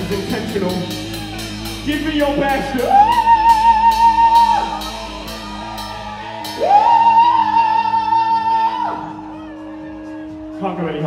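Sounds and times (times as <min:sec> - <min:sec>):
band holding a chord: 0:00.0 - 0:09.3
rock singer holding high notes: 0:00.0 - 0:10.6.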